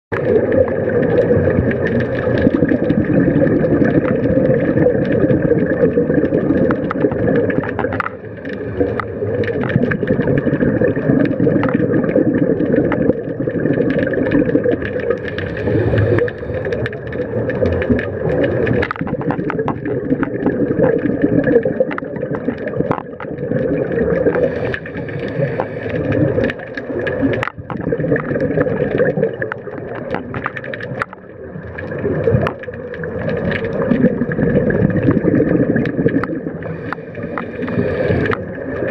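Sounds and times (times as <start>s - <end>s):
underwater clicks and crackles: 0.1s - 38.9s
underwater rumbling wash: 0.1s - 38.9s.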